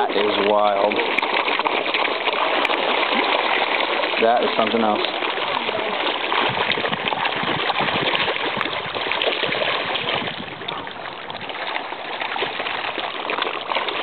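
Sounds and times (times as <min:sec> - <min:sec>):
fish splashing in water: 0:00.0 - 0:14.0.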